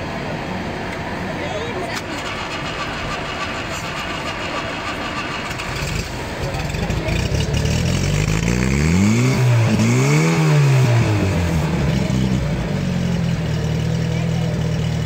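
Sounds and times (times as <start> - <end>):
petrol engine revving: 0.0 - 15.0.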